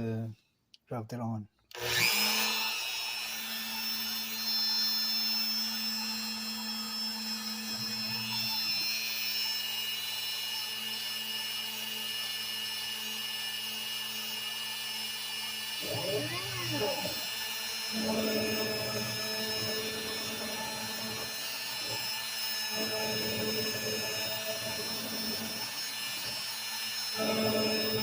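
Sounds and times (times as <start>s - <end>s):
router spindle whining: 1.7s - 28.0s.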